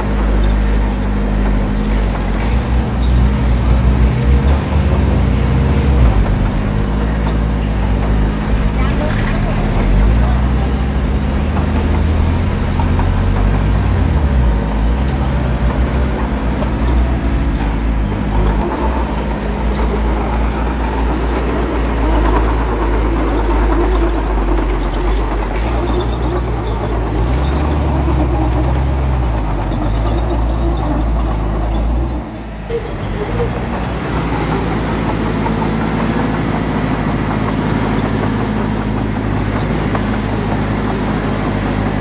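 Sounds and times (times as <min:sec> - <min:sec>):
diesel engine of earthmover running: 0:00.0 - 0:42.0.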